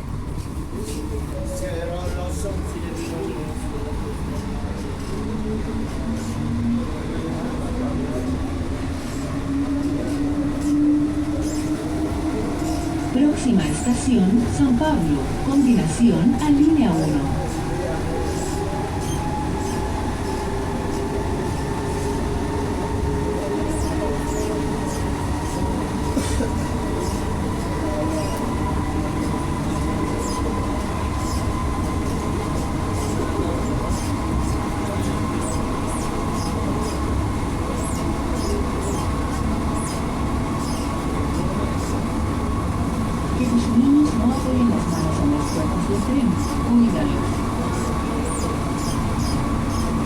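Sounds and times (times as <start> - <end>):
wheels rumbling on rail: 0.0 - 50.0.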